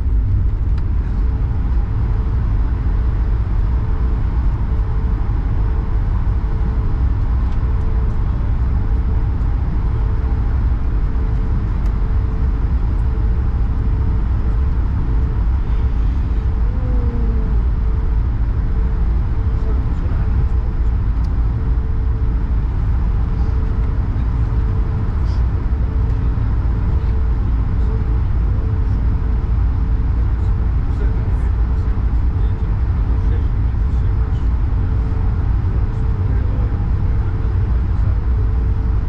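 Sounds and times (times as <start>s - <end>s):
aircraft cabin rumble: 0.0s - 39.0s
jet engine hum: 0.0s - 39.0s.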